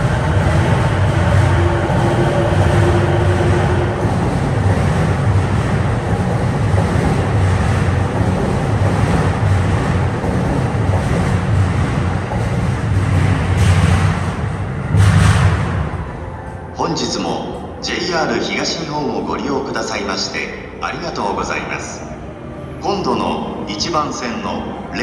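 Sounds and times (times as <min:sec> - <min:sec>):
steady tone: 0:00.0 - 0:25.0
train wheels rumbling on rail: 0:00.0 - 0:25.0.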